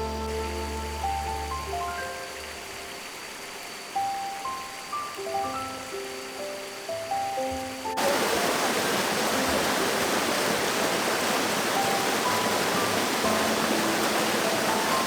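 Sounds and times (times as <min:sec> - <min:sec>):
soft background music: 0:00.0 - 0:15.0
stream running water: 0:00.0 - 0:15.0.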